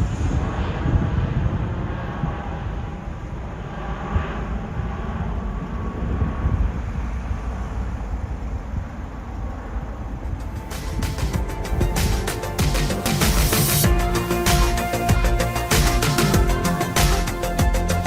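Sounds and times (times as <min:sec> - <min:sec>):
faint music: 0:00.0 - 0:18.0
jet engine roar: 0:00.0 - 0:18.0.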